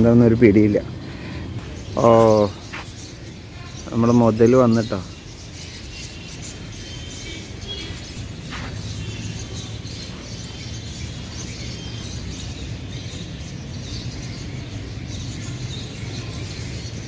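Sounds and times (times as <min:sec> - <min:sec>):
small birds chirping faintly: 0:00.0 - 0:17.0.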